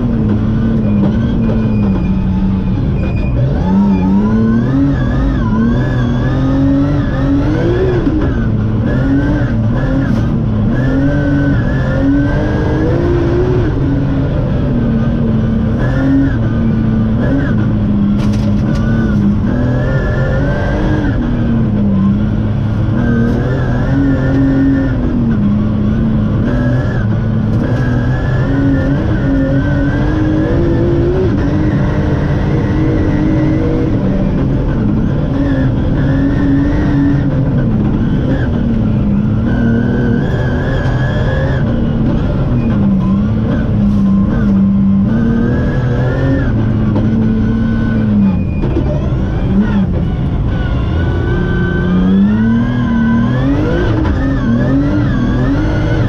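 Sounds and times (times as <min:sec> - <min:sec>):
rally car engine revving: 0:00.0 - 0:56.0
tyre and road noise: 0:00.0 - 0:56.0.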